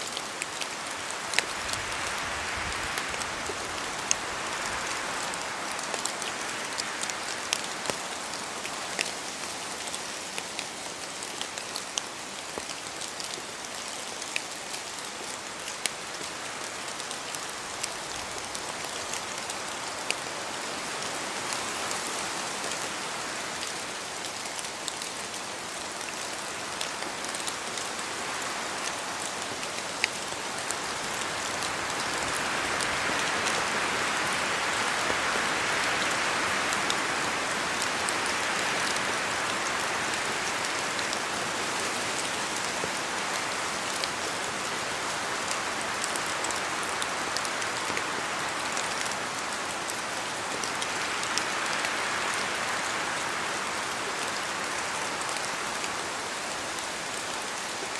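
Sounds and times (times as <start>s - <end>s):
rain on foliage: 0.0s - 57.9s.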